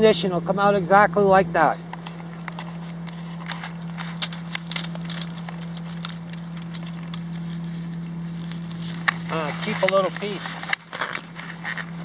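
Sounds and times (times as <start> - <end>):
steady low hum: 0.0 - 12.0
clicks and crackles on rock ballast: 1.9 - 12.0.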